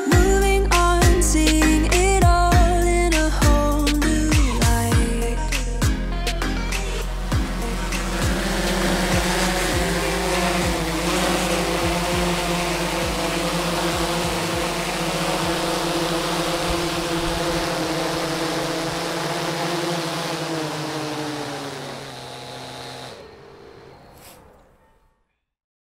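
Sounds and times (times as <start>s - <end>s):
drone motors and propellers humming: 0.0s - 25.0s.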